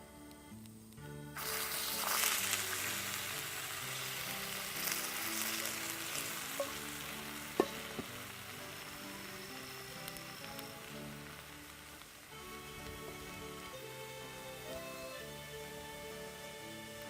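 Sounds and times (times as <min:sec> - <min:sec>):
food sizzling in a pan: 0:01.4 - 0:17.0.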